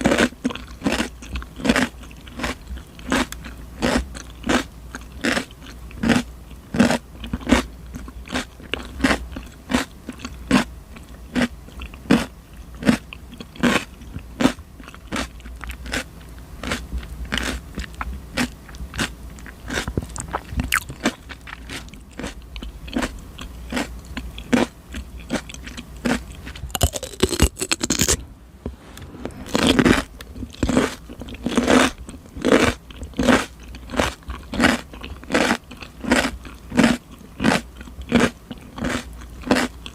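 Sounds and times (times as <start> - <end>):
cucumber crunching when chewed: 0.0 - 28.2, 29.4 - 39.9.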